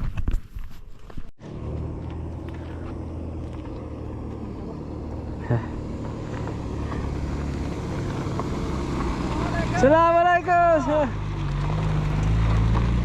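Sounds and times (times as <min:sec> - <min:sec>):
engine running steadily: 0:01.4 - 0:13.0.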